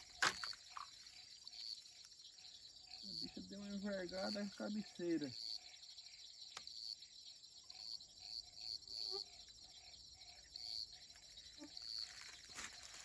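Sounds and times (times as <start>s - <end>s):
faint lower insect call: 0.0s - 13.0s
high insect whine: 0.0s - 13.0s
insects chirping: 0.0s - 13.0s.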